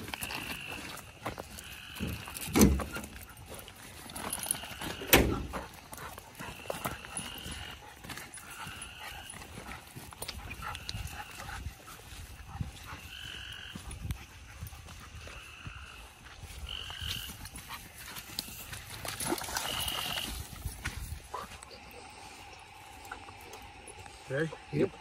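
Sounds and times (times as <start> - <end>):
footsteps through grass: 0.0 - 24.9.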